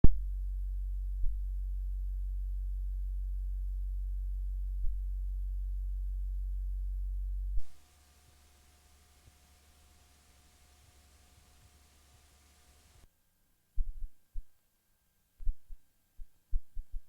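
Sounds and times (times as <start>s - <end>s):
low electrical hum: 0.0s - 15.4s
faint tape hiss: 0.0s - 17.0s.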